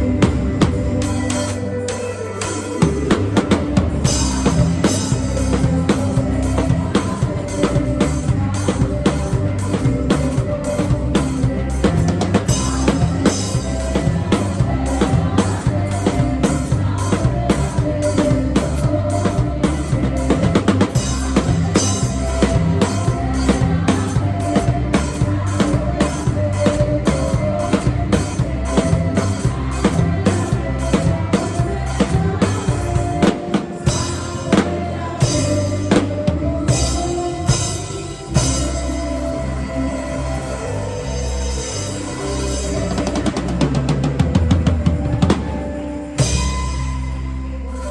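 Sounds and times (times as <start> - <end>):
acoustic drum kit beat: 0.0 - 47.9
band backing track: 0.0 - 47.9.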